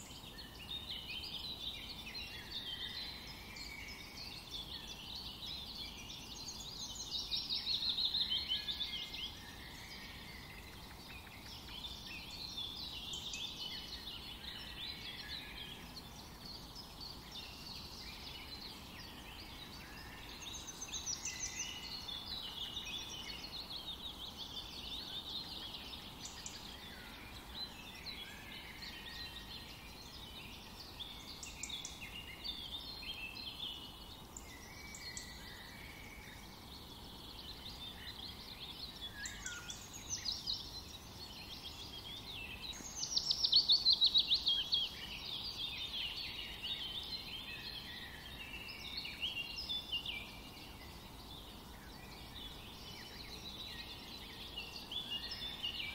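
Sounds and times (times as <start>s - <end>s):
birds singing and chirping: 0.0s - 55.9s
faint hiss: 0.0s - 55.9s.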